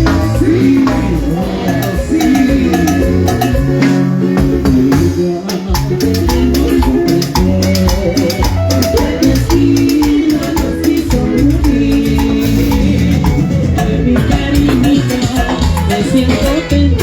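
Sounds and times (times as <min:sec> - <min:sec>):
live band playing dance music: 0:00.0 - 0:17.0
rattle percussion ticking: 0:00.0 - 0:17.0.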